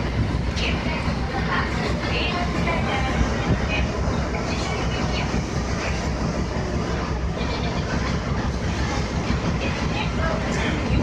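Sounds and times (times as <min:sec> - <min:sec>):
ferry engines rumbling: 0:00.0 - 0:11.0
wind and water noise: 0:00.0 - 0:11.0.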